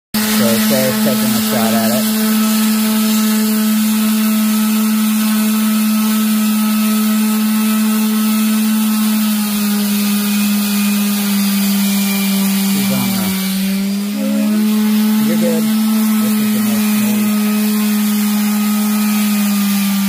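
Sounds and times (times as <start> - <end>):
sandpaper rasping on wood: 0.2 - 7.0, 8.2 - 20.0
orbital sander motor hum: 0.2 - 20.0.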